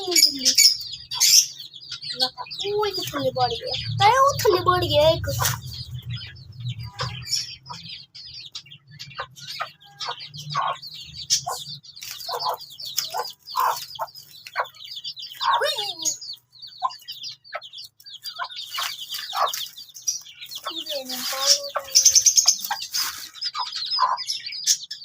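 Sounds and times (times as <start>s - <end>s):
chicks peeping: 0.0s - 25.0s
hen clucking: 0.0s - 25.0s.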